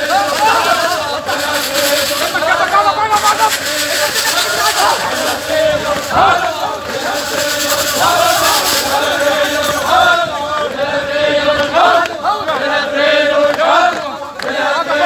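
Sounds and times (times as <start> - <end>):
crowd noise: 0.0 - 15.0
men chanting in unison: 0.0 - 15.0.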